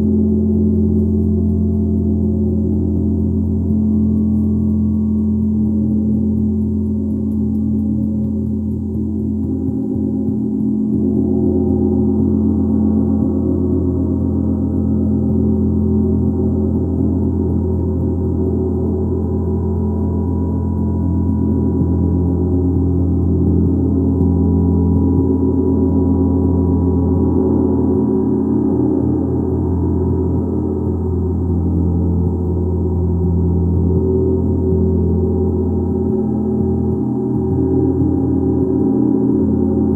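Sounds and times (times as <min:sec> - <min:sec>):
gong resonating: 0:00.0 - 0:39.9.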